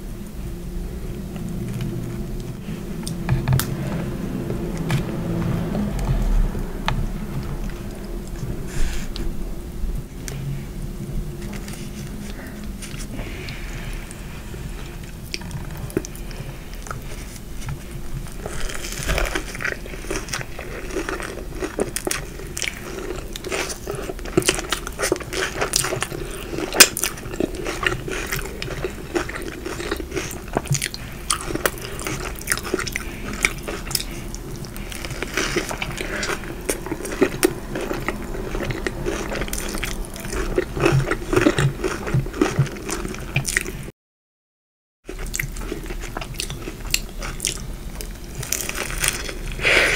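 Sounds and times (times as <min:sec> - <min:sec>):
crunchy chewing: 0:01.1 - 0:09.3, 0:10.1 - 0:43.9, 0:45.0 - 0:49.9.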